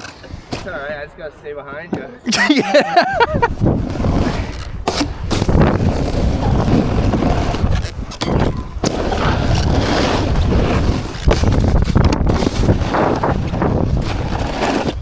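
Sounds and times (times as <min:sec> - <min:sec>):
skis scraping over snow: 0:00.0 - 0:01.0, 0:02.6 - 0:15.0
wind on microphone: 0:03.0 - 0:15.0.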